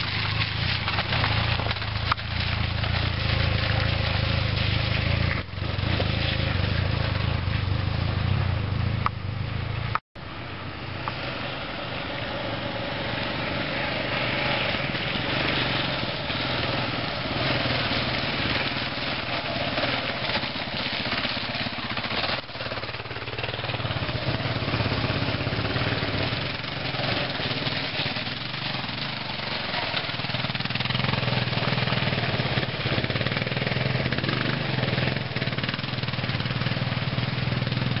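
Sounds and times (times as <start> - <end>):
motorcycle engines running: 0.0 - 38.0
motorcycle passing close by: 0.0 - 38.0.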